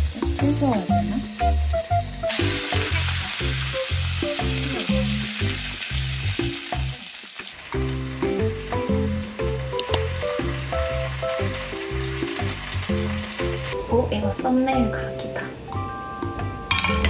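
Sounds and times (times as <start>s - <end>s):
chicken sizzling in a frying pan: 0.0s - 15.1s
background music: 0.0s - 17.0s.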